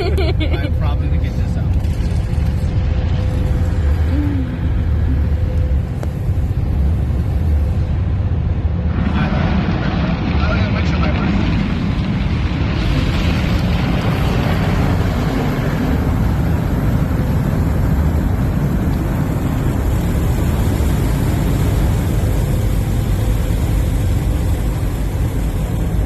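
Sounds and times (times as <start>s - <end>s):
car wash deep rumbling: 0.0s - 26.0s.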